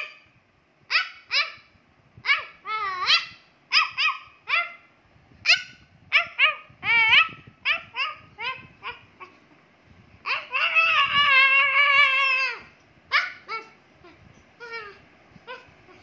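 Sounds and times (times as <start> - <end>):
dog yipping and barking: 0.0 - 0.3, 0.9 - 9.4, 10.2 - 16.0.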